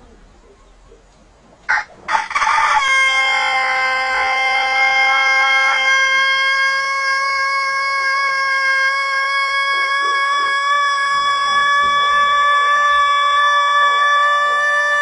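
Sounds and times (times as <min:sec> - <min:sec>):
rooster crowing: 0:01.7 - 0:15.0.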